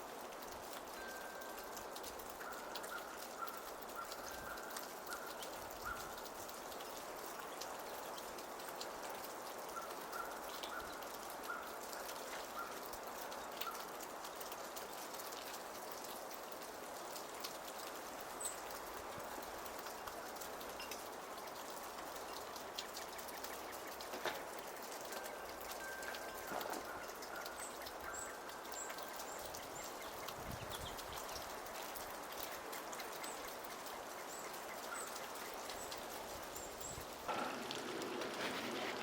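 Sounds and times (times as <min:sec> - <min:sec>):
falling water drops: 0:00.0 - 0:39.0.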